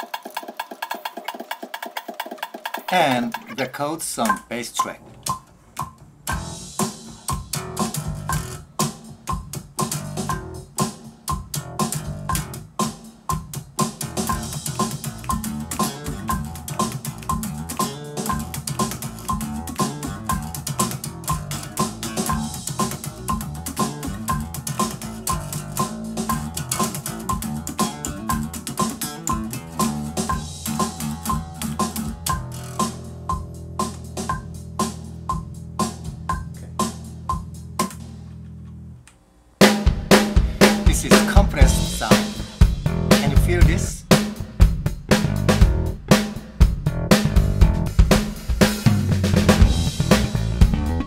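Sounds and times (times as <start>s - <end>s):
backing track with steady beat: 2.2s - 38.2s, 39.6s - 51.0s
electric bass guitar fingerstyle: 6.3s - 12.7s, 14.0s - 39.0s, 40.4s - 51.0s.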